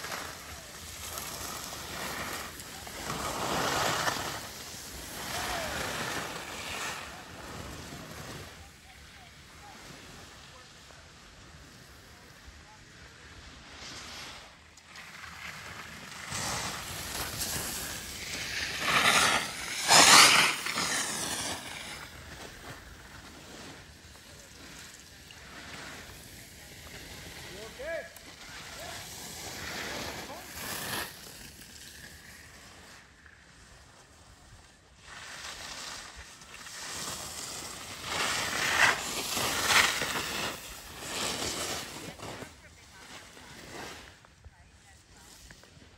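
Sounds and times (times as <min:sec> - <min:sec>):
skis scraping across snow: 0:00.0 - 0:45.9.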